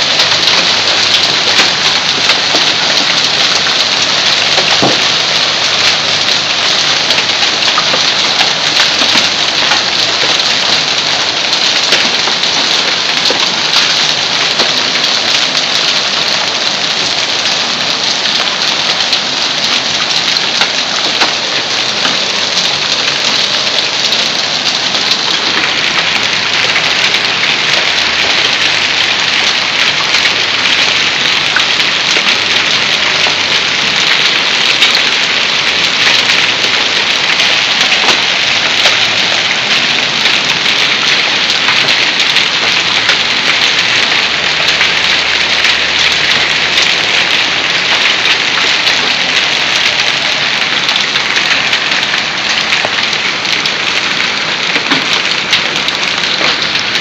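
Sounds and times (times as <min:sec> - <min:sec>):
hail and rain pelting ground: 0:00.0 - 0:57.0.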